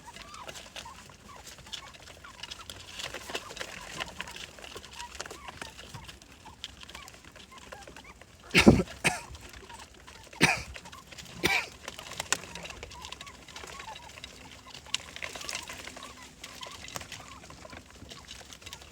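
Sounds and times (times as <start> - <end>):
pigeons pecking and scuffling: 0.0 - 18.9.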